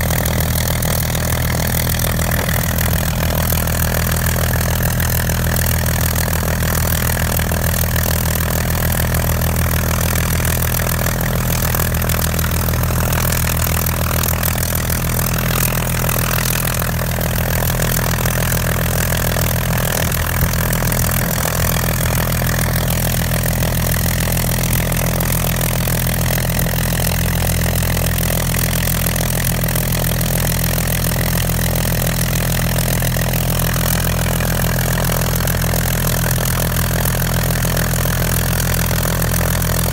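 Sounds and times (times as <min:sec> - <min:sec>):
aircraft engine idling: 0:00.0 - 0:39.9
propeller turning: 0:00.0 - 0:39.9.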